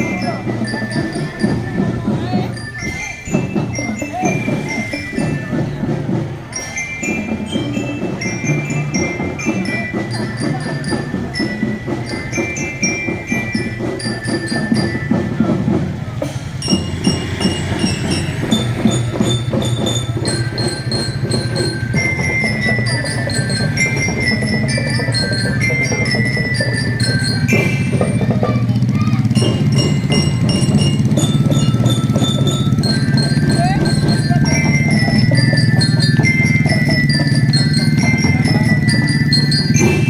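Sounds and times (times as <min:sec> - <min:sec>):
bell lyra melody: 0:00.0 - 0:40.0
marching drums: 0:00.0 - 0:40.0.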